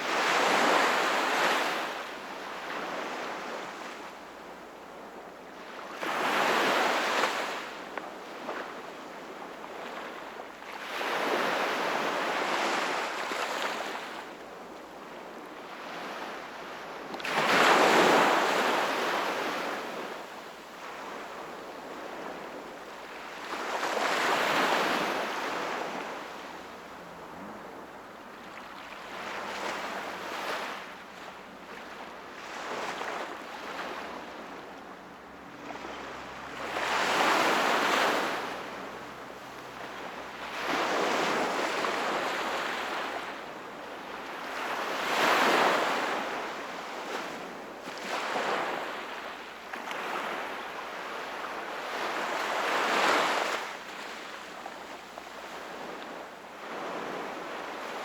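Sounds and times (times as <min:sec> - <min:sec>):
small waves breaking on shore: 0:00.0 - 0:58.0.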